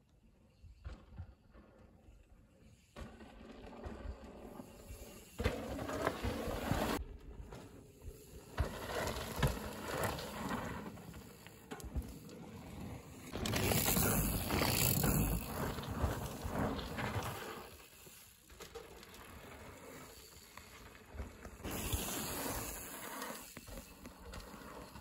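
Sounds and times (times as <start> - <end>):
bike tyres rolling on dirt: 0.1 - 25.0
bikes rattling: 2.6 - 25.0.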